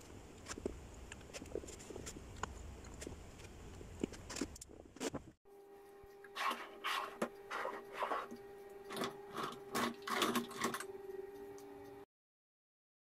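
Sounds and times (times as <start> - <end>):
steady hum: 0.0 - 12.1.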